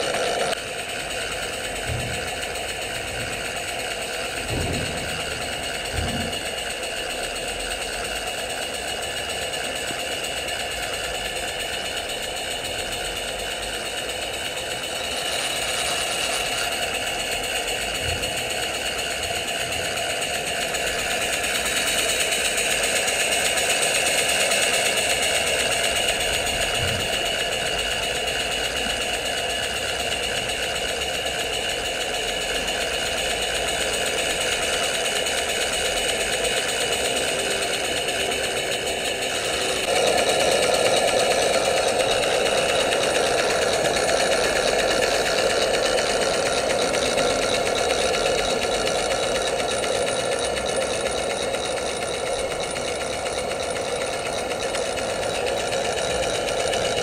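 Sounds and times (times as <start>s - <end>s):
small steam engine running: 0.0s - 57.0s.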